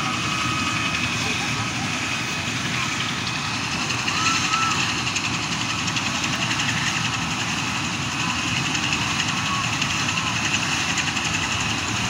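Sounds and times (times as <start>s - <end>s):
helicopter engine and rotor rumble: 0.0s - 12.0s
helicopter turbine whine: 0.0s - 12.0s.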